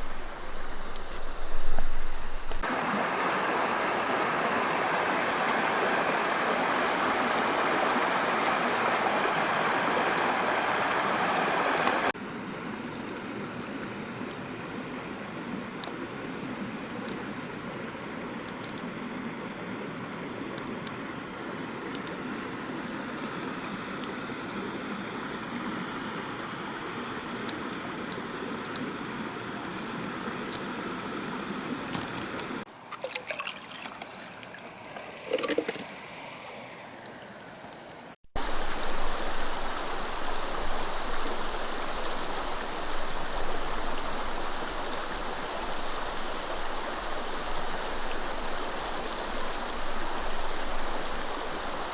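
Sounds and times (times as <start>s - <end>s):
stream water rushing: 0.0s - 37.0s, 38.3s - 51.9s.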